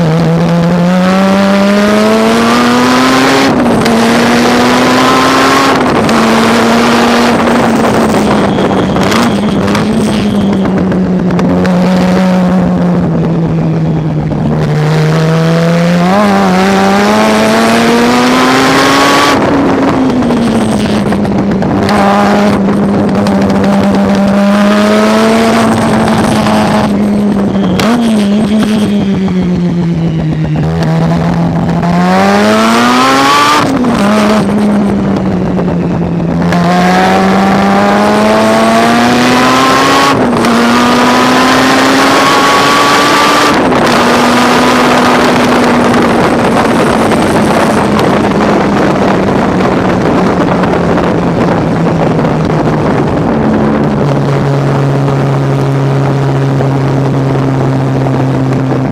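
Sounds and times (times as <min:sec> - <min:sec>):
race car engine at high revs: 0:00.0 - 0:58.9.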